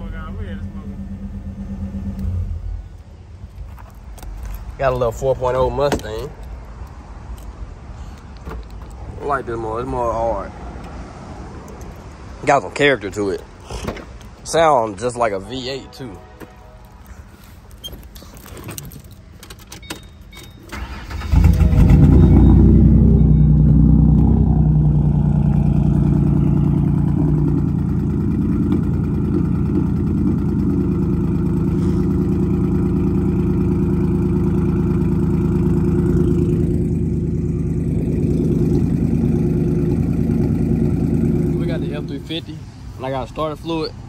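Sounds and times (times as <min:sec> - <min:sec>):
car engine starting and idling: 0:00.0 - 0:13.4, 0:18.4 - 0:43.8.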